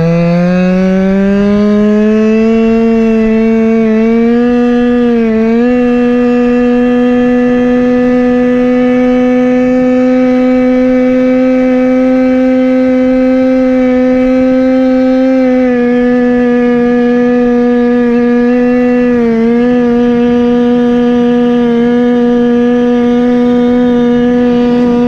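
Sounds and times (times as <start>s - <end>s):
two-stroke scooter engine revving: 0.0s - 25.0s.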